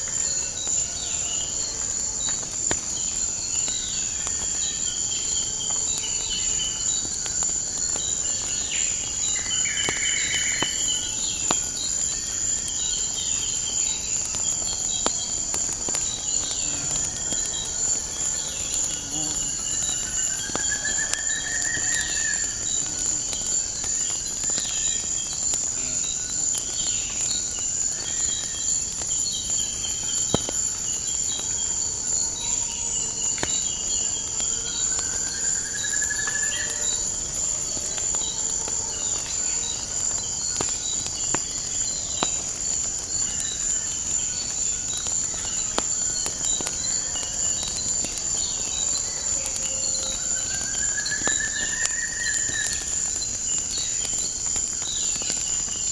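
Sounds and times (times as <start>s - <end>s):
crickets chirping: 0.0s - 55.9s
wood fire crackling: 0.0s - 55.9s.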